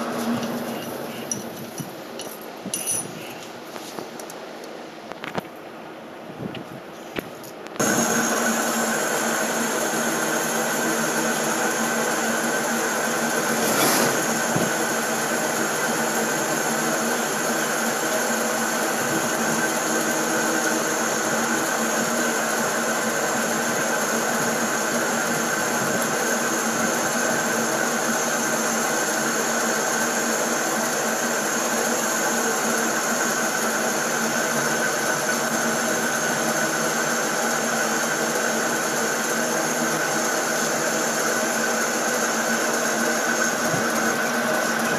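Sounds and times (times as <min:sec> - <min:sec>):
metal lathe cutting metal: 0:07.8 - 0:44.9.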